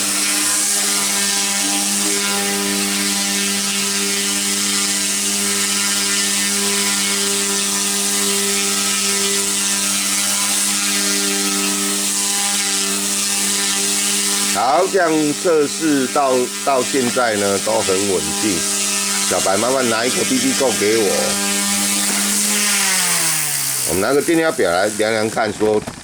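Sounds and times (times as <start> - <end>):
rc helicopter buzzing hum: 0.0 - 26.0.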